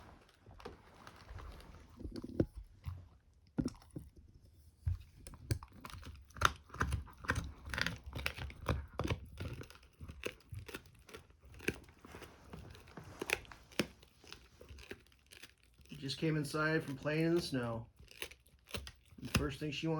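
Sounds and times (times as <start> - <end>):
dog gnawing on bone: 0.0 - 19.9.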